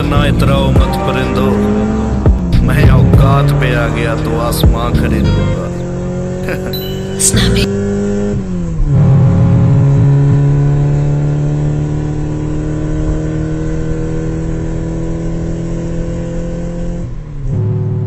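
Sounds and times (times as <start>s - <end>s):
car engine revving high: 0.0s - 18.0s.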